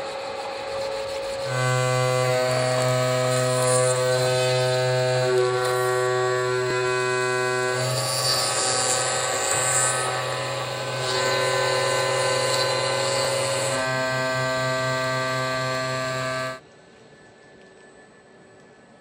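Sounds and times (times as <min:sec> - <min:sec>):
router spindle motor whine: 0:00.0 - 0:16.6
hiss of cutting plastic: 0:00.1 - 0:16.6.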